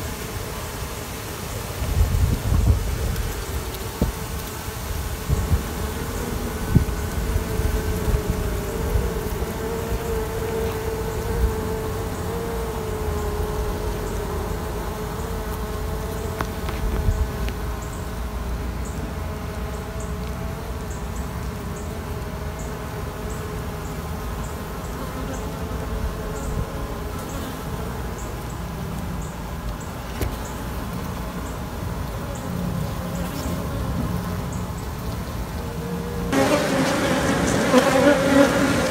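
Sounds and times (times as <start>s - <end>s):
honey bees buzzing: 0.0s - 38.9s.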